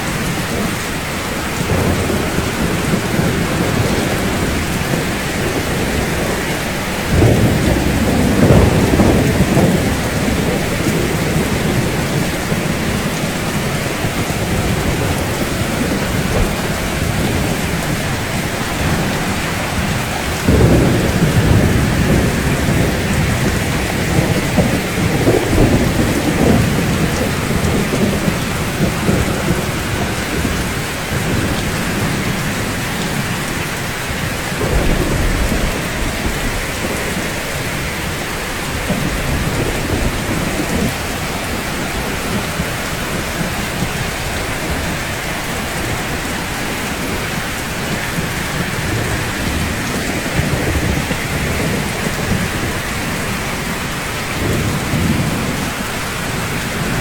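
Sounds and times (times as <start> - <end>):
steady rain hissing: 0.0 - 57.0
thunder rumbling: 0.0 - 57.0.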